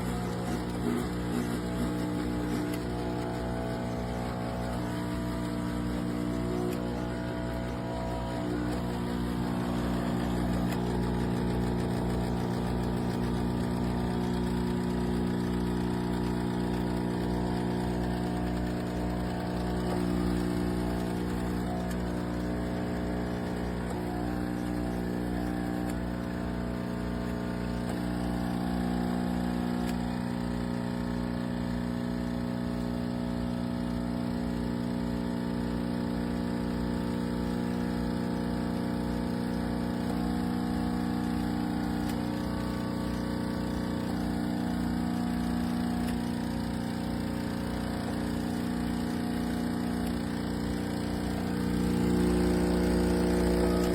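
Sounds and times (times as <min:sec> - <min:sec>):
espresso machine pump humming: 0:00.0 - 0:53.9.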